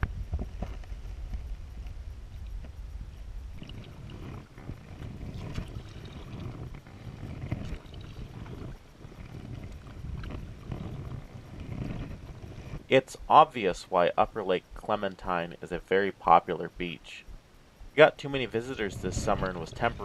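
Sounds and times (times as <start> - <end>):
low rumble: 0.0 - 15.2, 17.2 - 20.0.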